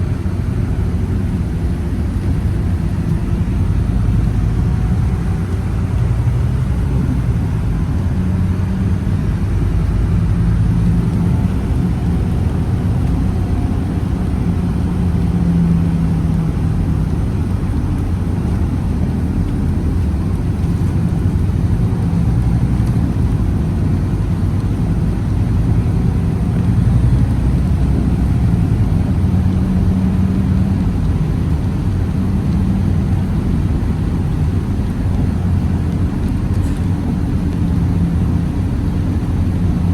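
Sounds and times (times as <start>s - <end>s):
bus engine drone: 0.0s - 39.9s
road rumble: 0.0s - 39.9s.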